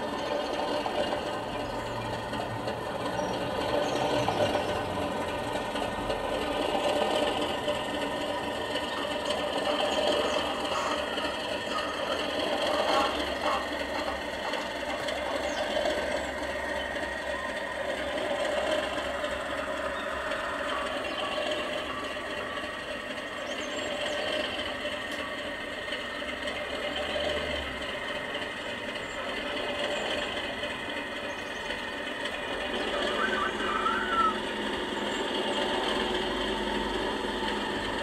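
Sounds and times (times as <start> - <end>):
diesel engine sound through small speaker: 0.0 - 38.0.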